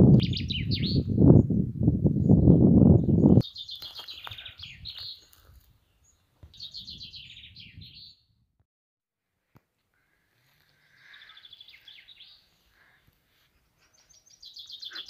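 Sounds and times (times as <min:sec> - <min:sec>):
songbird singing: 0:00.0 - 0:08.4, 0:10.0 - 0:15.0.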